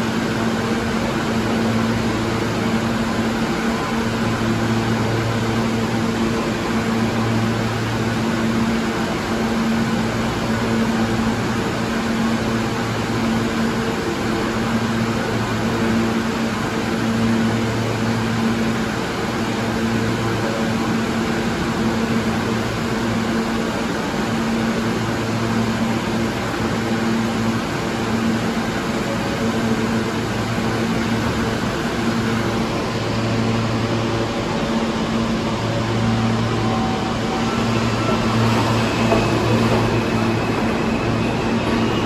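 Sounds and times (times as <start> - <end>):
air-handling machinery hum: 0.0 - 42.0.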